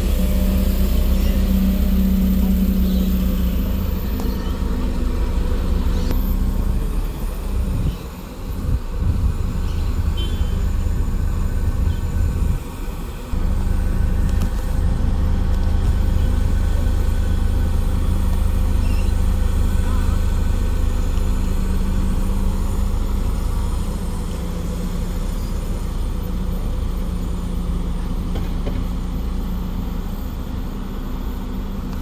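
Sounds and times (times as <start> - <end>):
bus engine humming: 0.0 - 32.0.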